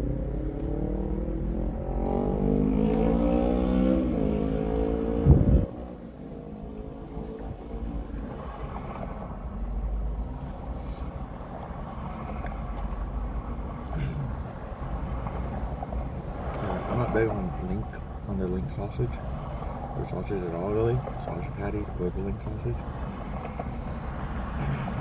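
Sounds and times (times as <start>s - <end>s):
vehicle engine revving: 0.0s - 9.3s, 13.4s - 25.0s.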